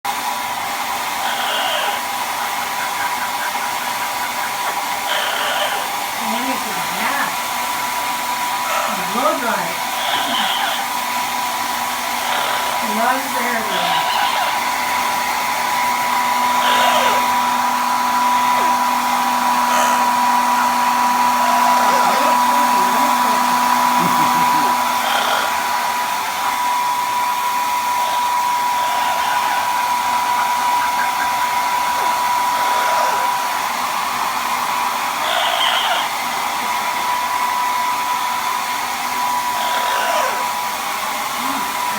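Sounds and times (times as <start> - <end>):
hair dryer blowing: 0.1 - 41.9.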